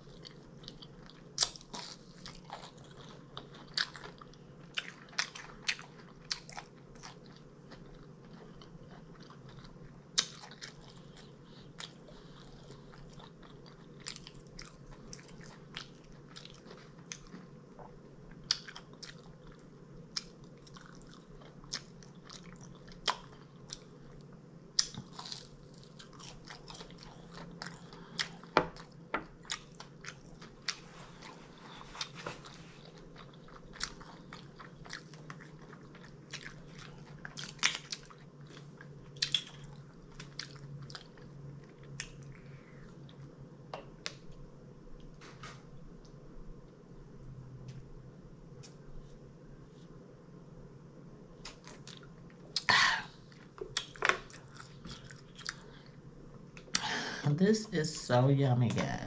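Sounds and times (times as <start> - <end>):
person chewing and crunching: 0.0 - 43.2, 51.4 - 56.0
steady low hum: 0.0 - 59.0.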